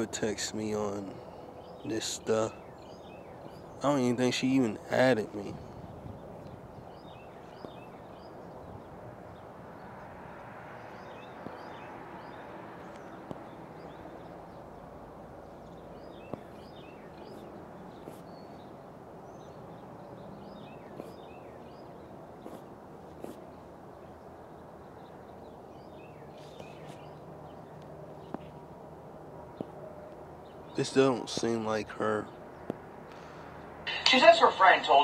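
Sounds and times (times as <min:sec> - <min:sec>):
small birds chirping: 0:00.0 - 0:35.0
steady background noise: 0:00.0 - 0:35.0.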